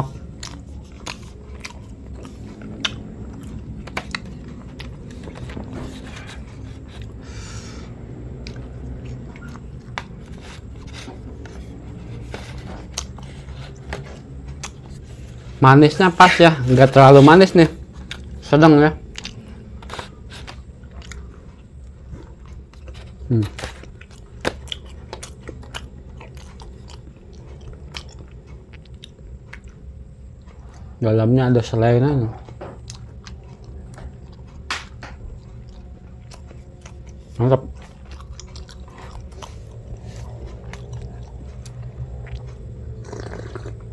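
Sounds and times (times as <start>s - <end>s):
chewing bread: 0.0s - 7.3s, 7.9s - 16.0s, 16.8s - 31.0s, 32.3s - 43.9s
steady low hum: 0.0s - 43.9s.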